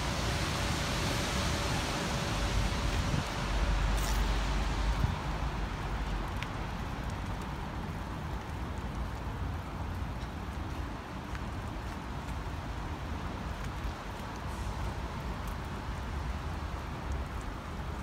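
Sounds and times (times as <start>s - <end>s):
passing traffic: 0.0s - 18.0s.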